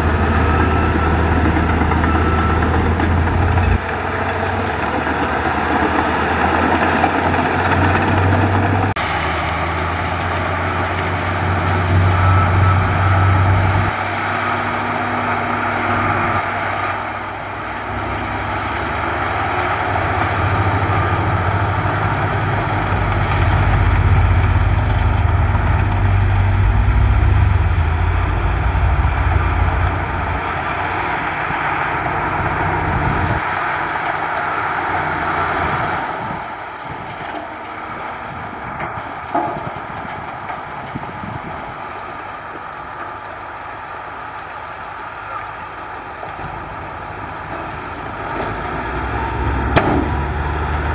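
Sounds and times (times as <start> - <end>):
heavy diesel engines under load: 0.0 - 50.9.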